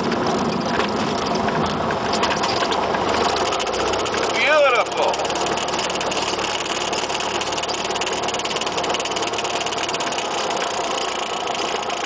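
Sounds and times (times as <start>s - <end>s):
airplane engine running: 0.0s - 12.0s.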